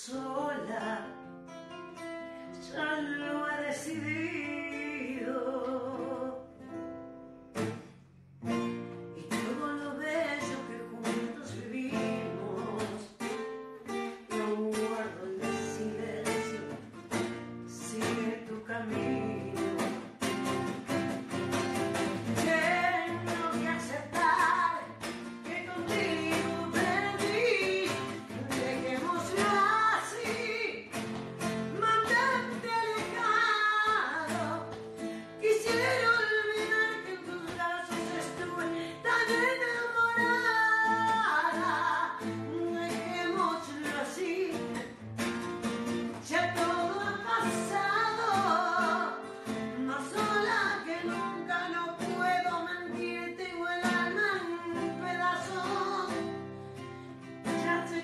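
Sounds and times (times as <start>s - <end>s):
woman singing a ballad: 0.0s - 6.8s, 9.1s - 13.6s, 14.2s - 45.0s, 45.9s - 58.0s
strummed nylon-string guitar: 0.0s - 58.0s.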